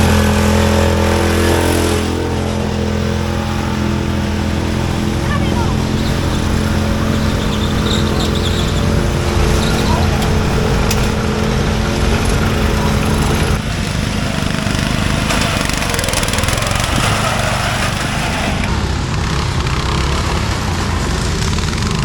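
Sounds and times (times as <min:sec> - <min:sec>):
riding lawn mower engine: 0:00.0 - 0:22.0.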